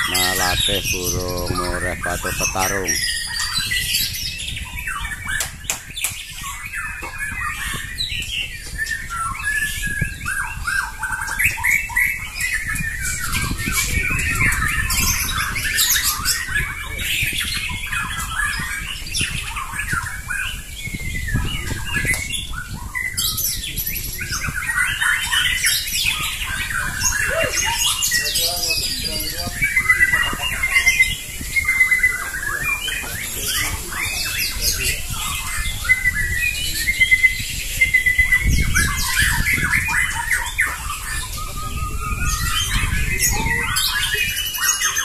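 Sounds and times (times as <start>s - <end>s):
birds singing: 0.0s - 45.0s
harsh bird calls: 0.0s - 45.0s.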